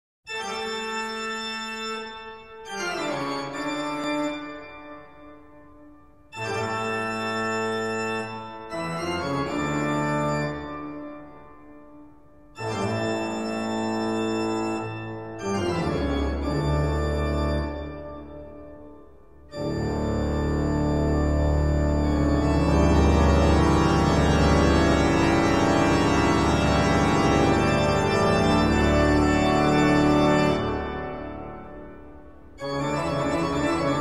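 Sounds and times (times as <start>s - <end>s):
organ chords: 0.3s - 34.0s.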